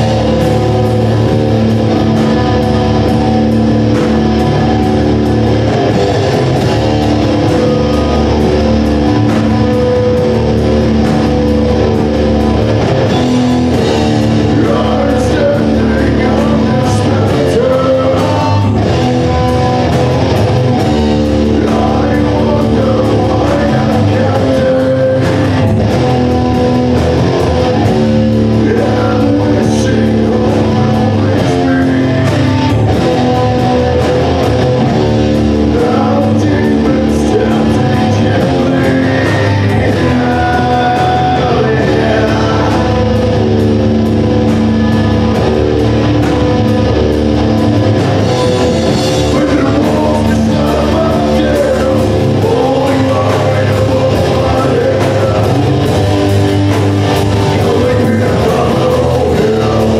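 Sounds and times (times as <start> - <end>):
person singing: 0.0 - 44.0, 47.8 - 59.9
rock band playing live: 0.0 - 59.9.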